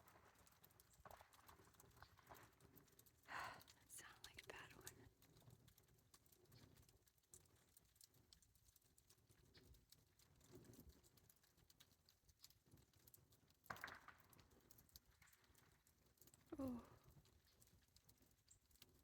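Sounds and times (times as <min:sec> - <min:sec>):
ice ticking and crackling in trees: 0:00.0 - 0:19.0.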